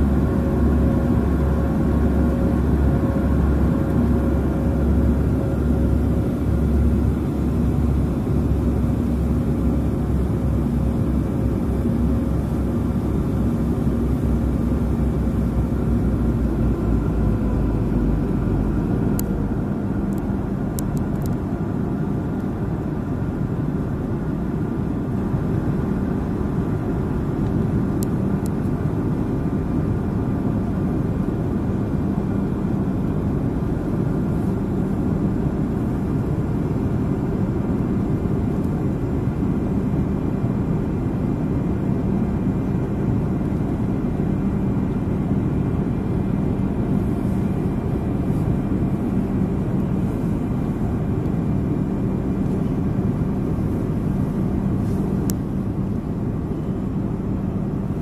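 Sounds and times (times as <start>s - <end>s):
jet cabin engine rush: 0.0s - 58.0s.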